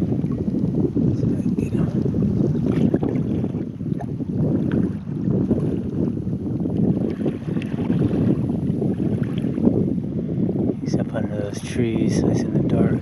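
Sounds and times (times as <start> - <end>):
water lapping against hull: 0.0 - 13.0
wind buffeting microphone: 0.0 - 13.0.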